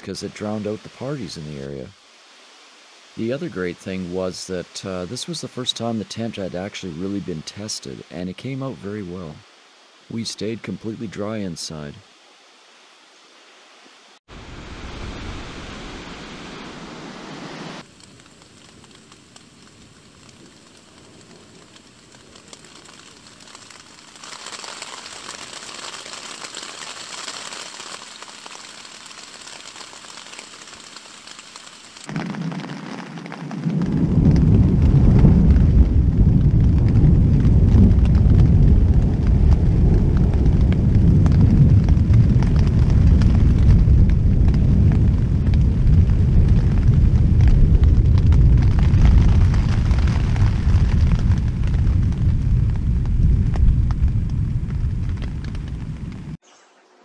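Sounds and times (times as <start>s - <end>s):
storm wind and heavy rain rumble: 0.0s - 56.4s
rain hissing: 0.0s - 57.0s.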